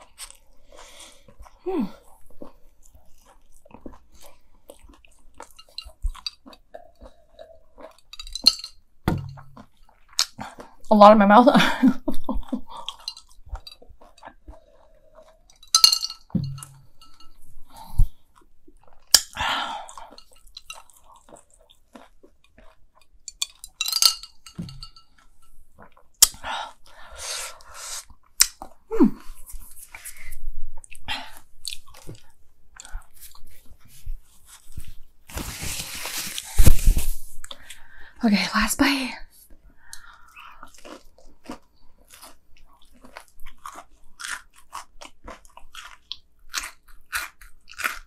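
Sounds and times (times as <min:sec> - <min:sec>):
chewing crunchy food: 0:00.0 - 0:10.9, 0:12.0 - 0:36.6, 0:39.4 - 0:48.0.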